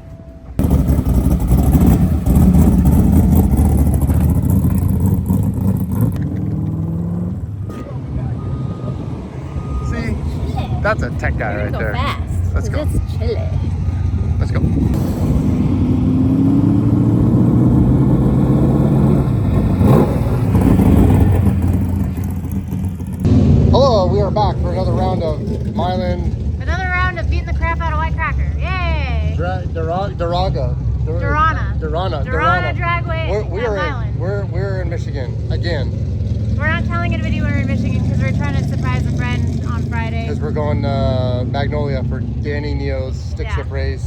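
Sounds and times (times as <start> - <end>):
car engine rough low rumble: 0.0 - 44.0.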